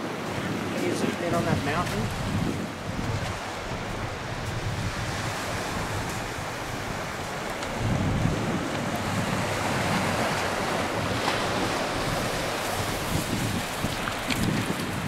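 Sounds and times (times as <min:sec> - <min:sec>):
small waves on a beach: 0:00.0 - 0:15.0
wind buffeting microphone: 0:00.0 - 0:15.0.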